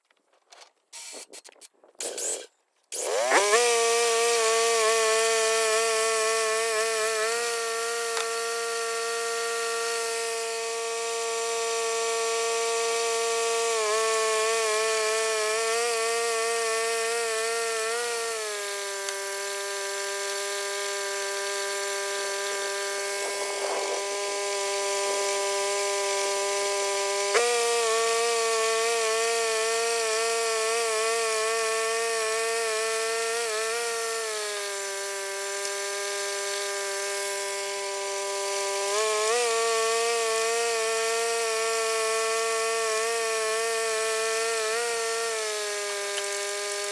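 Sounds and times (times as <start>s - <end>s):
bandsaw mill cutting log: 1.0s - 1.4s, 2.0s - 46.9s.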